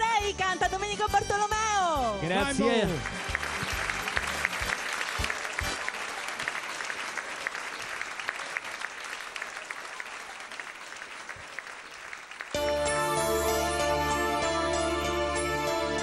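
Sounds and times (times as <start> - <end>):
audience applauding: 2.2 - 16.0.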